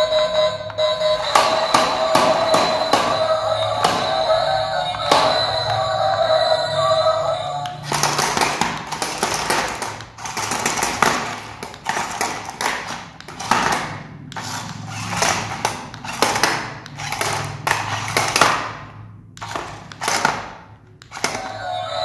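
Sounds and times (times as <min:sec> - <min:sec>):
toy car motors whirring: 0:00.0 - 0:18.6, 0:19.4 - 0:22.0.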